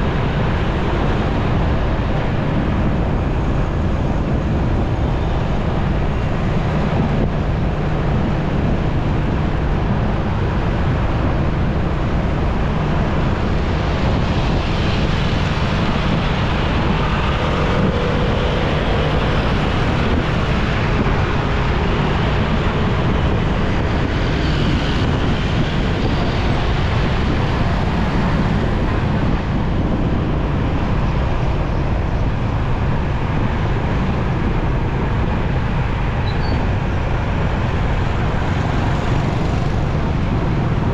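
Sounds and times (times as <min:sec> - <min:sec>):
motorcycle engine and road noise: 0:00.0 - 0:40.9
wind rumble on microphone: 0:00.0 - 0:40.9.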